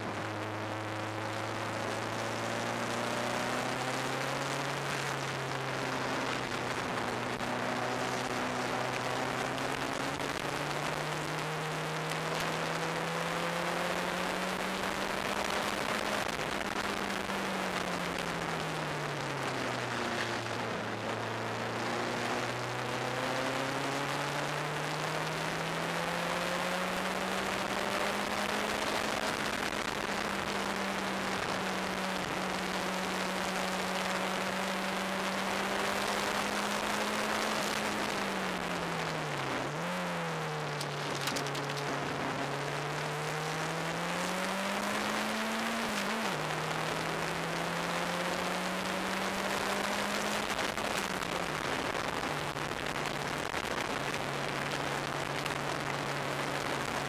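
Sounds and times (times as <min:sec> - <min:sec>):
turbocharged car engine: 0:00.0 - 0:57.0.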